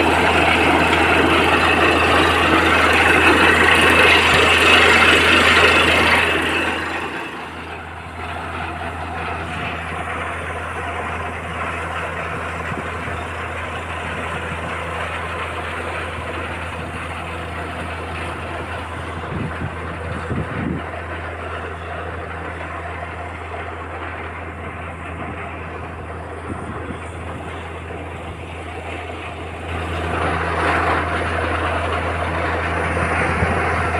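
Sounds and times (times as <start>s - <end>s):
drilling rig engine humming: 0.0s - 33.9s.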